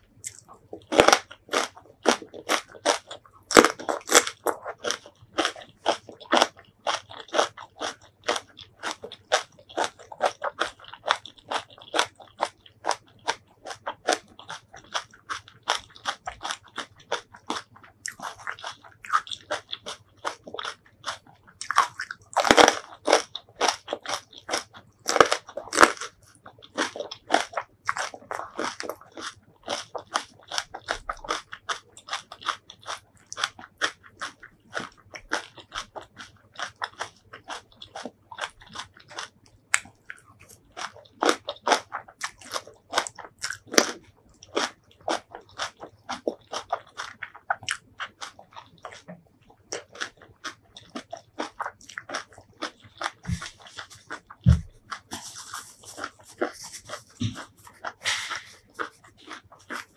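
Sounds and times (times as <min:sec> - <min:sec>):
crunching and chewing: 0:00.0 - 0:59.9.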